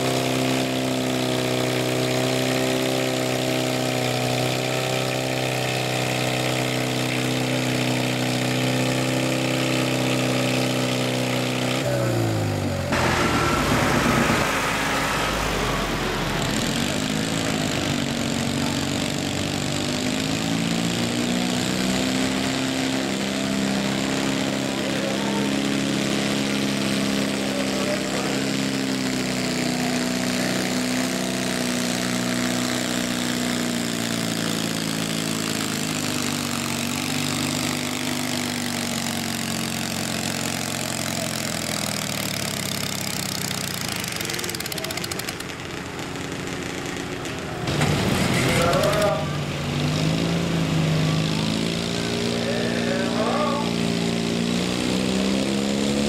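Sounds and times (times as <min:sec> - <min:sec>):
small engine running hard: 0:00.0 - 0:56.0.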